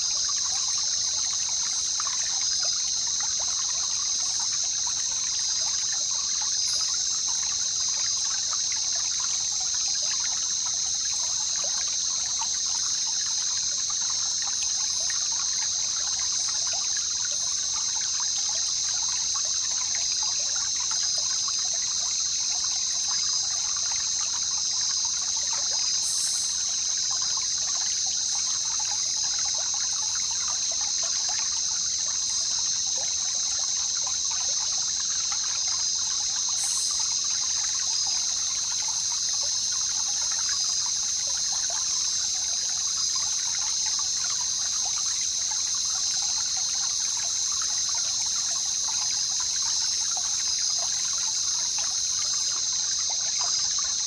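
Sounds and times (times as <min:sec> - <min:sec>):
river water trickling: 0:00.0 - 0:54.0.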